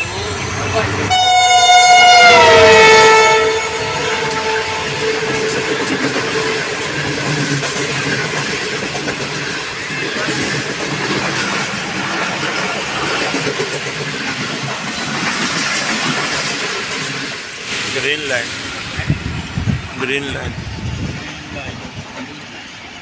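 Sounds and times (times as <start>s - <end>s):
train coaches rushing past: 0.0s - 23.0s.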